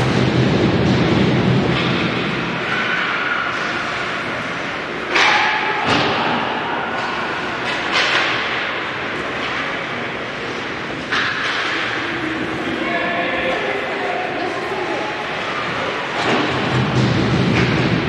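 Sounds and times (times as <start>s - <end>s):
ice rink noise: 0.0s - 18.0s.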